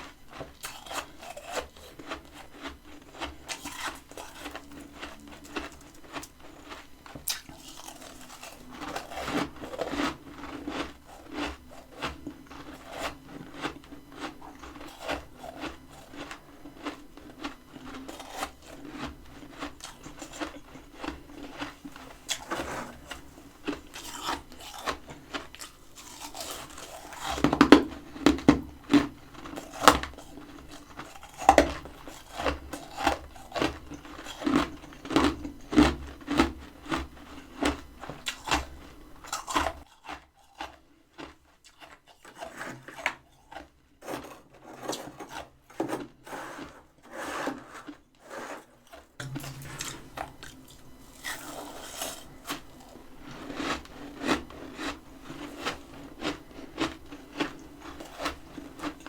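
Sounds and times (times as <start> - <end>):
frost crunching and crackling: 0.0 - 46.7, 48.9 - 59.0.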